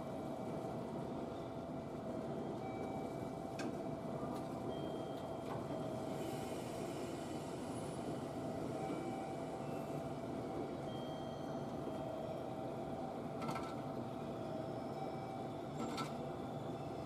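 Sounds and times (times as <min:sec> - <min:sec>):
electric train running hum: 0:00.0 - 0:17.0.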